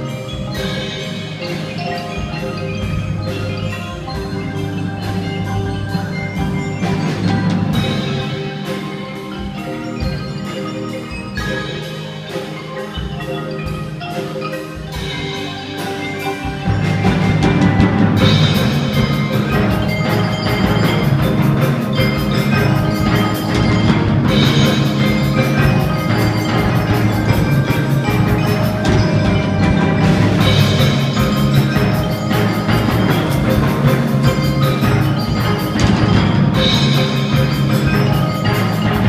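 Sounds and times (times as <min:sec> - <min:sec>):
drums and bass: 0:00.0 - 0:39.0
marimba and xylophone melody: 0:00.0 - 0:39.0.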